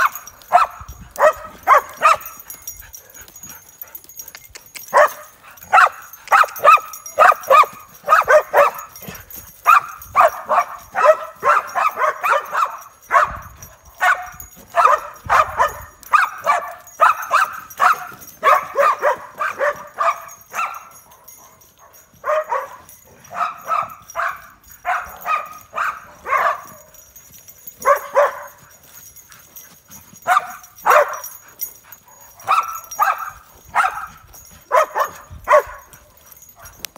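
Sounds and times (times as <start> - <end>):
dog barking and yipping: 0.0 - 36.9.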